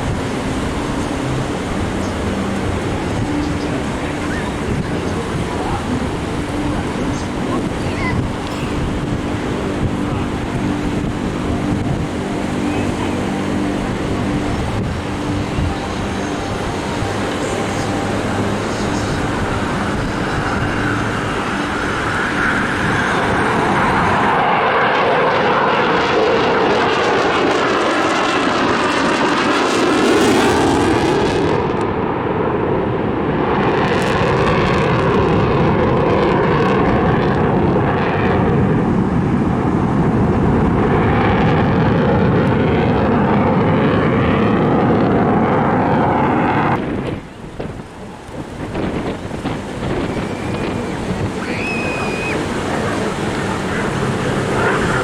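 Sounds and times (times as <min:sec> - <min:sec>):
airplane flying past: 0:00.0 - 0:55.0.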